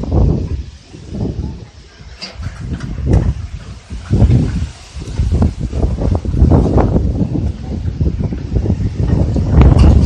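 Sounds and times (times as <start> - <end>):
faint hiss: 0.0 - 10.0
storm wind buffeting microphone: 0.0 - 10.0.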